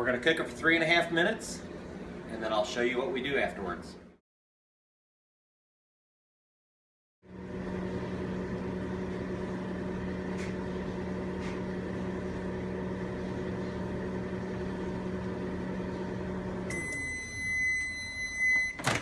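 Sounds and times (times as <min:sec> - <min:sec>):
microwave oven humming: 0:00.0 - 0:04.2, 0:07.2 - 0:19.0.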